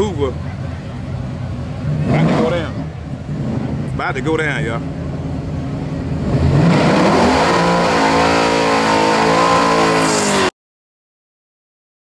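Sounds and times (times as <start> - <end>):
race car engine revving: 0.7 - 10.5.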